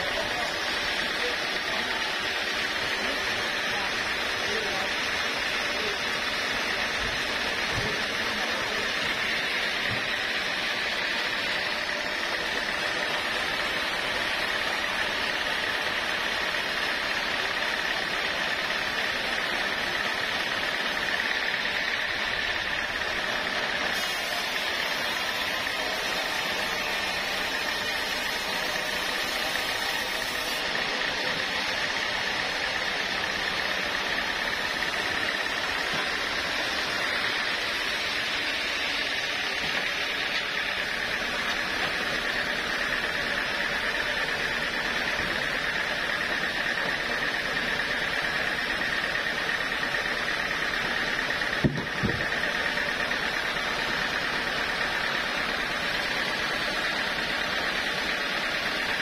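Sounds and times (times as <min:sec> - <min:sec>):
high mechanical whine: 0:00.0 - 0:59.0
sawmill machinery running: 0:00.0 - 0:59.0.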